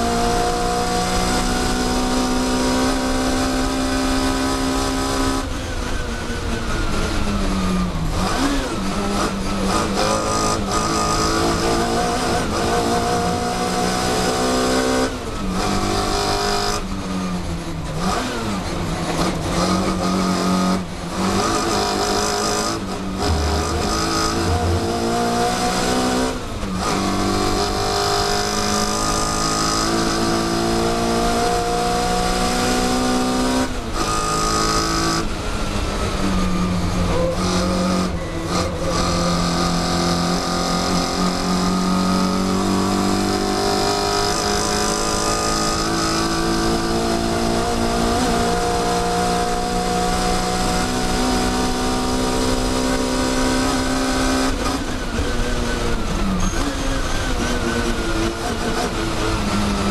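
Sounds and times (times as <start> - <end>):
race car engine revving: 7.0 - 59.9.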